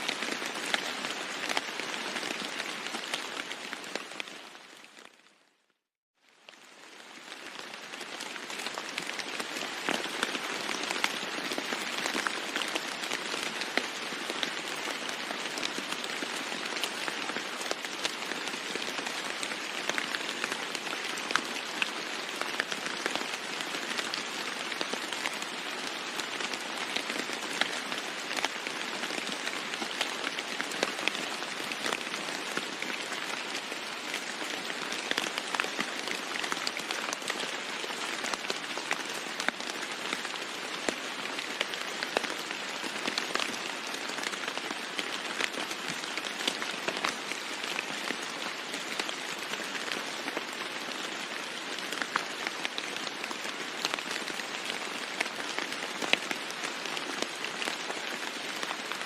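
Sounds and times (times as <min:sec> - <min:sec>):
heavy rain drumming on roof: 0:00.0 - 0:05.1, 0:06.6 - 0:59.0.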